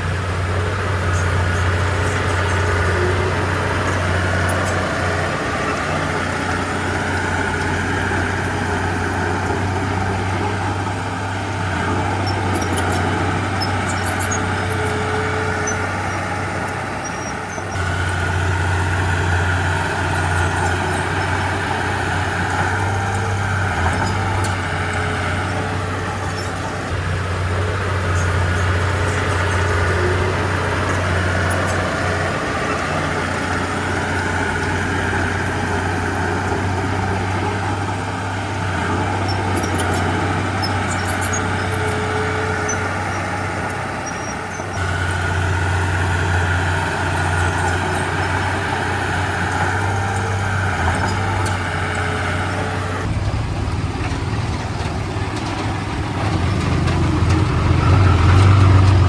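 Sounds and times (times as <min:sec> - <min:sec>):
heavy diesel machinery engine drone: 0:00.0 - 0:59.0.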